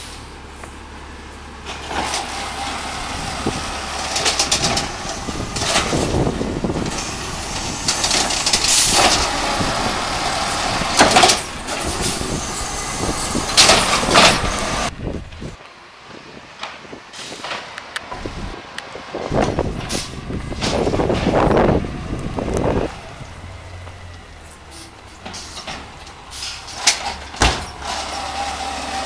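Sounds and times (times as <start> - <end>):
garbage truck engine: 0.0 - 29.0
cart banging and rattling: 1.6 - 15.6, 19.3 - 29.0.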